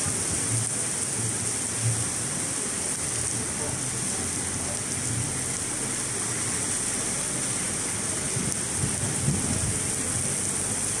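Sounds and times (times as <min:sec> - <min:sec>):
heavy rain on a street: 0:00.0 - 0:11.0.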